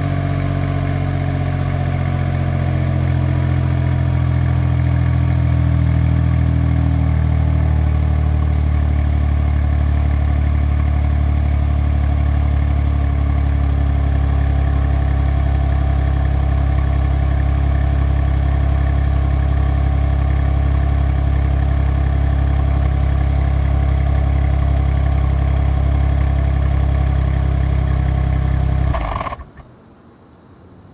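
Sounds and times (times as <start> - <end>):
car engine idling: 0.0 - 29.7.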